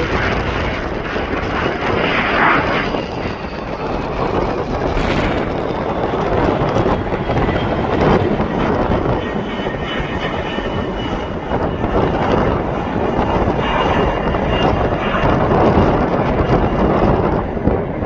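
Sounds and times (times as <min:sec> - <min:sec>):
airplane engines roaring: 0:00.0 - 0:18.0.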